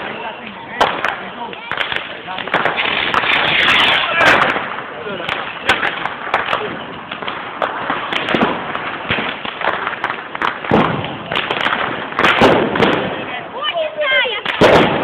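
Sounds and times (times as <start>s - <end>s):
fireworks bangs and crackles: 0.0s - 15.0s
loud sharp firework cracks: 0.0s - 15.0s.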